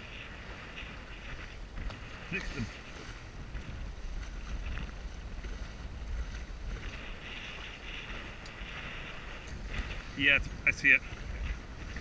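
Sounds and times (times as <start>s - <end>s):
water washing past boat hull: 0.0s - 12.0s
wind buffeting microphone: 0.0s - 12.0s.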